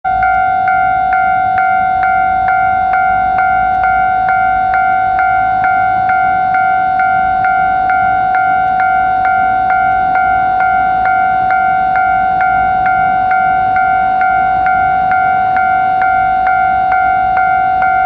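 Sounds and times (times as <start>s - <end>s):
level crossing alarm clanging: 0.0s - 18.0s.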